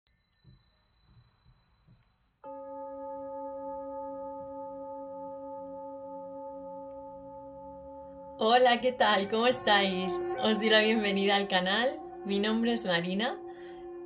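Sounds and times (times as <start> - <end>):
singing bowl ringing: 0.1 - 14.0.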